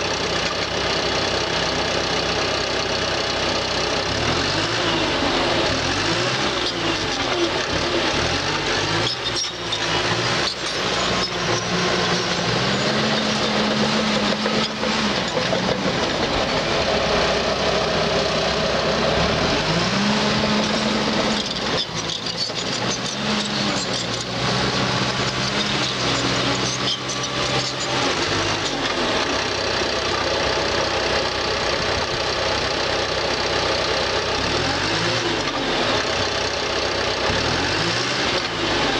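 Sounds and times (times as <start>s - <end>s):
bulldozer diesel engine revving: 0.0s - 38.9s.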